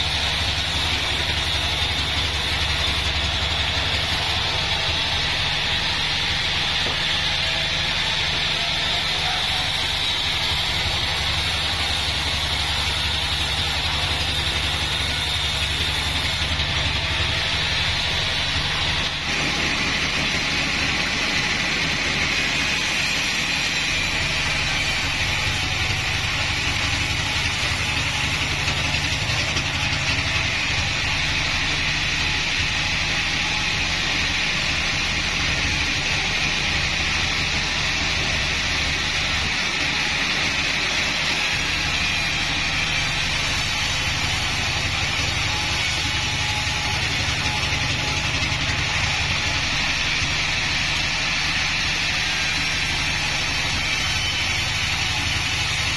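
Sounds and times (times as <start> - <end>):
band sawmill cutting a log: 0.0 - 55.9.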